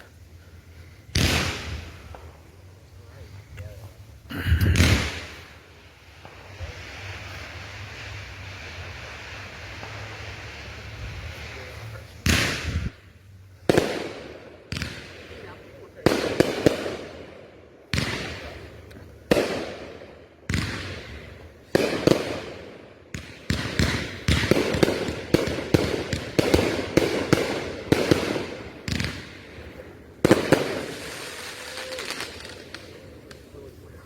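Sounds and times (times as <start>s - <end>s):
fireworks bangs with rumbling echo: 1.0s - 34.0s.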